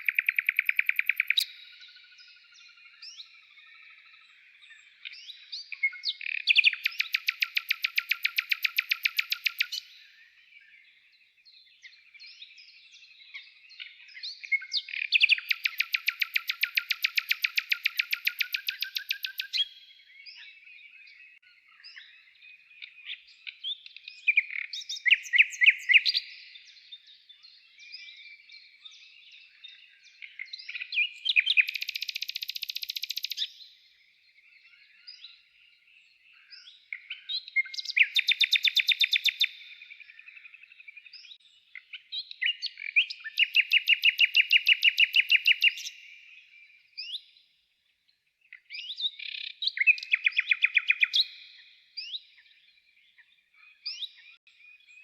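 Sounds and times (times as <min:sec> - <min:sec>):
songbird trilled phrases: 0:00.0 - 0:47.4, 0:48.4 - 0:55.0
bird chirps and calls: 0:00.0 - 0:55.0.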